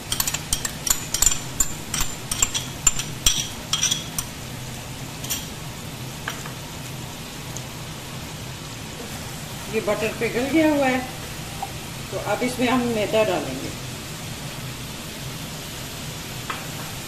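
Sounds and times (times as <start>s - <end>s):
butter sizzling in a frying pan: 0.0s - 17.0s.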